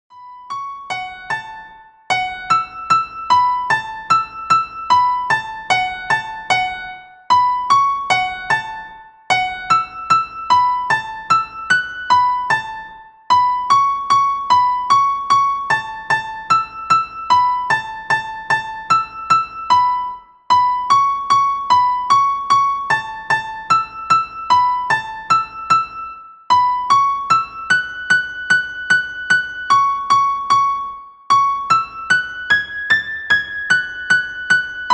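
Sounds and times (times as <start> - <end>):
light piano melody: 0.1 - 34.9.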